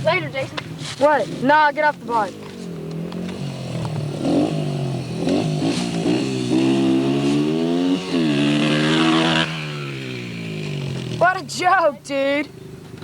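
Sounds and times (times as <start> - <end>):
dirt bike engine revving: 1.2 - 11.8.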